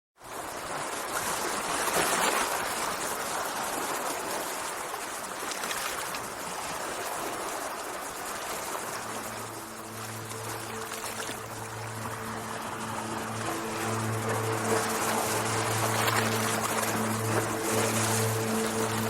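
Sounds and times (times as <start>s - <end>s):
sea water washing: 0.4s - 19.0s.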